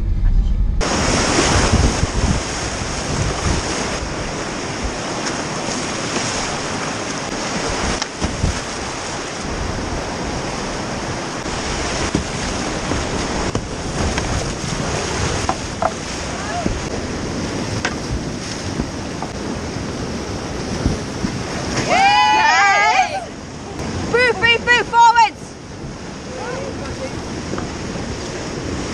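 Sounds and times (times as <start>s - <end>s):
river rapids rushing and splashing: 0.8s - 28.9s.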